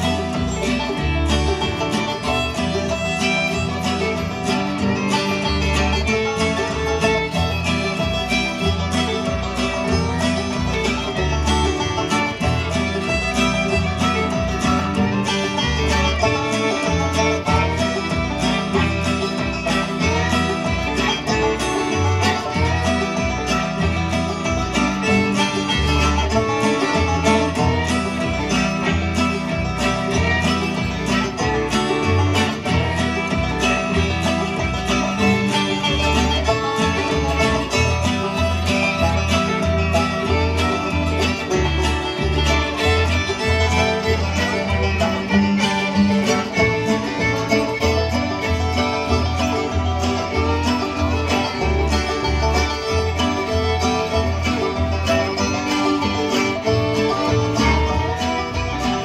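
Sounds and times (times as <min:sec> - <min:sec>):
acoustic guitar: 0:00.0 - 0:59.0
banjo: 0:00.0 - 0:59.0
fiddle: 0:00.0 - 0:59.0
upright bass plucking: 0:00.0 - 0:59.0.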